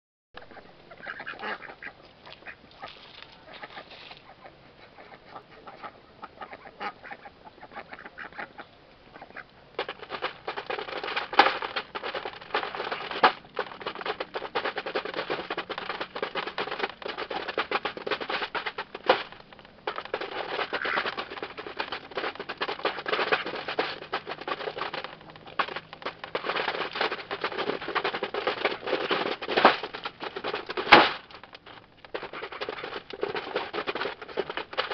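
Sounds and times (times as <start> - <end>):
duck bills pecking feed: 0.4 - 34.9.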